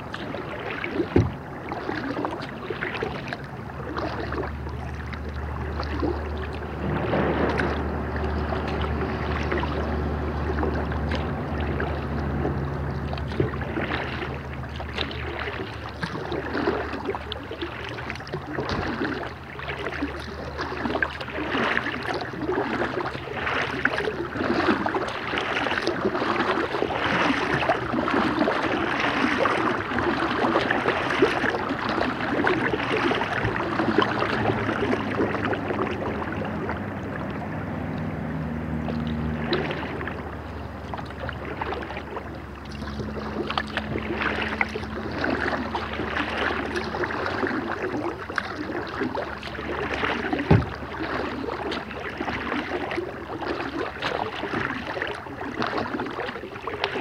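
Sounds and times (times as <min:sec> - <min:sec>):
low steady hum: 0:00.0 - 0:57.0
paddle splashing in water: 0:00.0 - 0:57.0.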